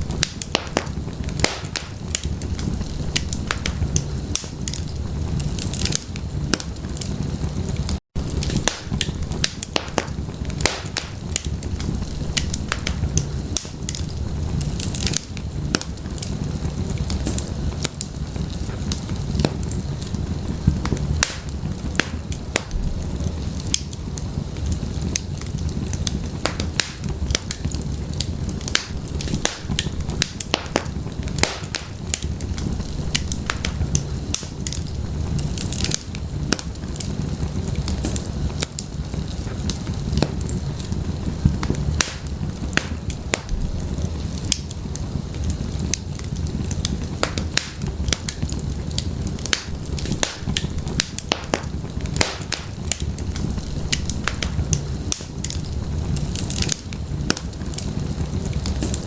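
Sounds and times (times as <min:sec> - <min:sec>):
wood fire crackling in fireplace: 0:00.0 - 0:59.0.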